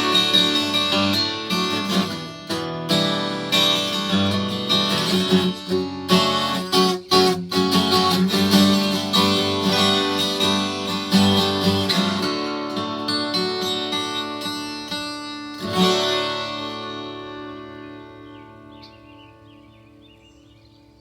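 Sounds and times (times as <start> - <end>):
acoustic guitar strummed: 0.0 - 20.6.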